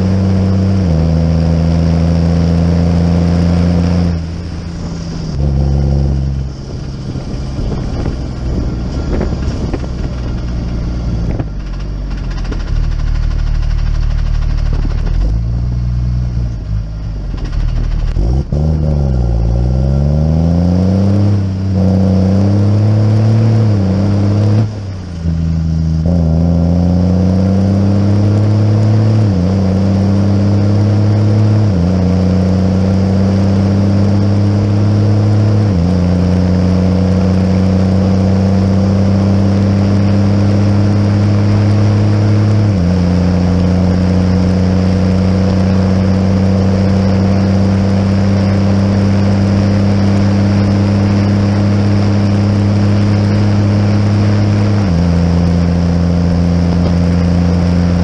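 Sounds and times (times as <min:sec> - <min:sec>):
tractor engine accelerating: 0:00.0 - 0:58.0.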